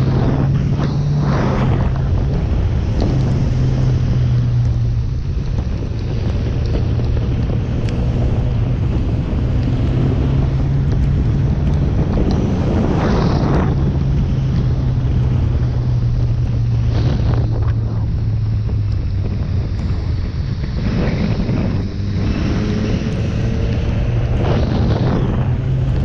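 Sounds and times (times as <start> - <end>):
motorcycle engine cruising: 0.0 - 26.0
wind on microphone: 0.0 - 26.0.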